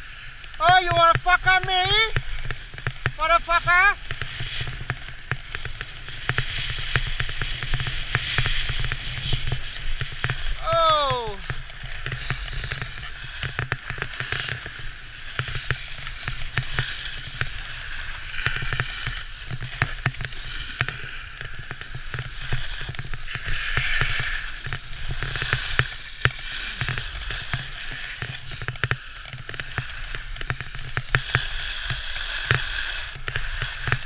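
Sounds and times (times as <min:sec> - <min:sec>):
snowboard scraping on snow: 0:00.0 - 0:34.0.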